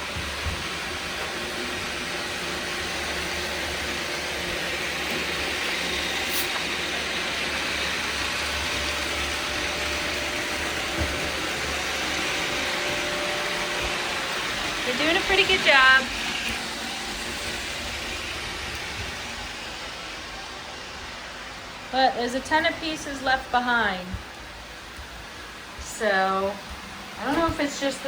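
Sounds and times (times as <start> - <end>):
robot vacuums whirring: 0.0 - 28.0.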